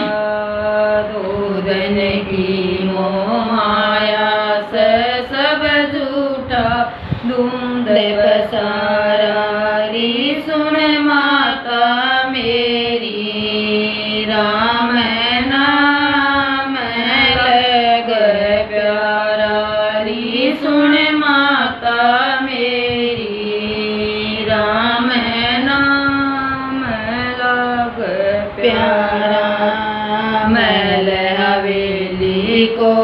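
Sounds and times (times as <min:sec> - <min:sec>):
woman singing devotional song: 0:00.0 - 0:33.0.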